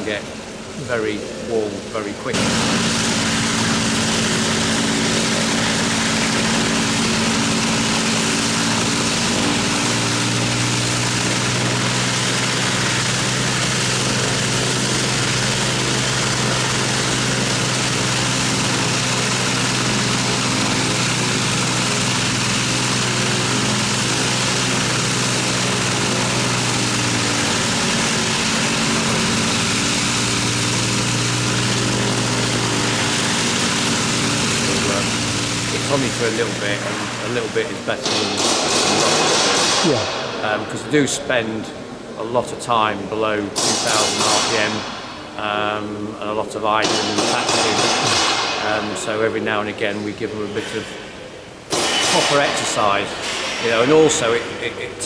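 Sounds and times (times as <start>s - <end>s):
aircraft engines droning: 0.0s - 48.2s.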